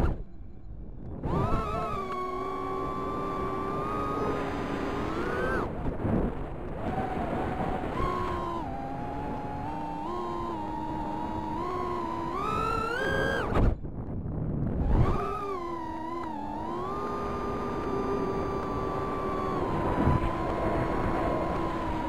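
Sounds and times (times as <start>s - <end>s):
quadcopter motors whining: 1.0s - 5.9s, 6.6s - 13.8s, 14.7s - 22.0s.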